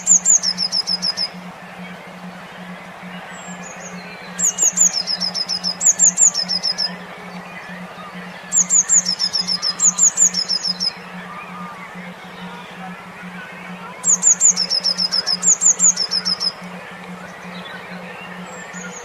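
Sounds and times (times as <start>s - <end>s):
faint bird chirping: 0.0s - 19.0s
pulsing low hum: 0.0s - 19.0s
songbird singing: 0.0s - 19.0s.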